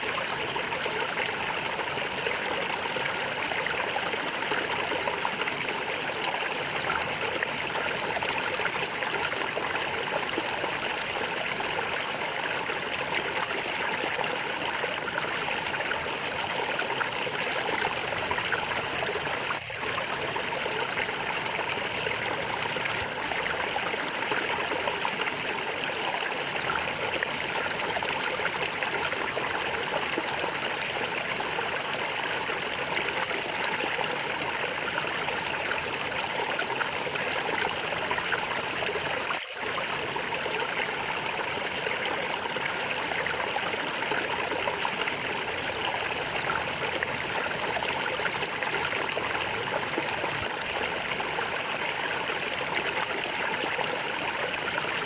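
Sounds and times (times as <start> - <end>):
stream gurgling: 0.0 - 55.0.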